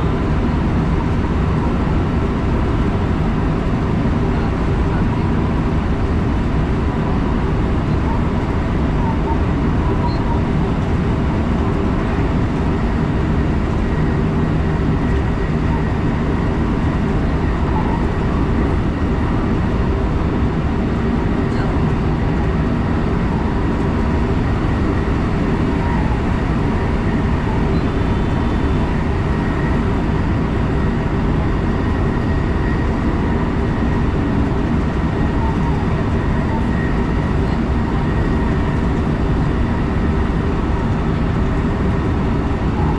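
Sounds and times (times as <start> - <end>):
faint steady whine: 0.0 - 42.9.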